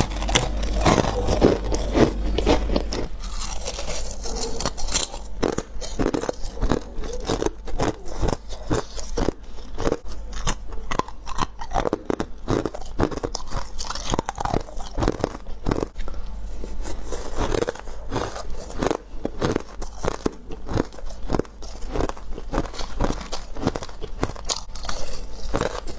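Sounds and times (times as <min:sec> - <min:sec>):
chewing ice crunches: 0:00.0 - 0:25.9.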